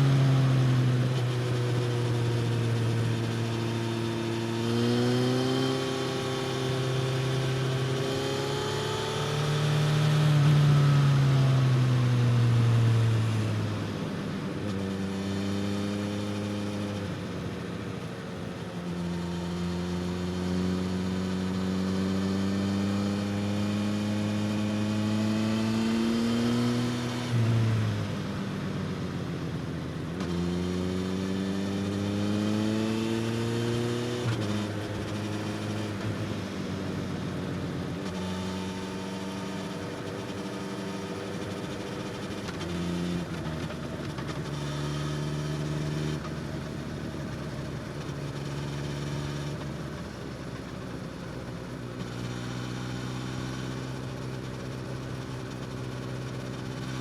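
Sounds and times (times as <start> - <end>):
motorcycle engine revving through gears: 0.0 - 57.0.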